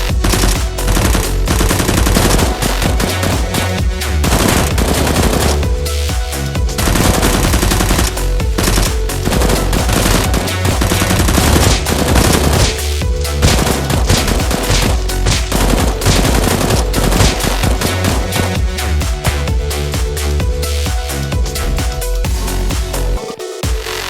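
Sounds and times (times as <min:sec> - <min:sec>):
electronic music beat: 0:00.0 - 0:24.0.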